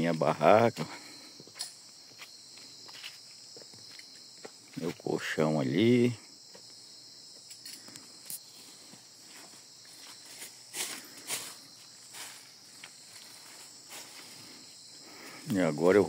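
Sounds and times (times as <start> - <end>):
crickets chirring: 0.0 - 16.0
footsteps: 0.8 - 5.3, 6.5 - 15.6.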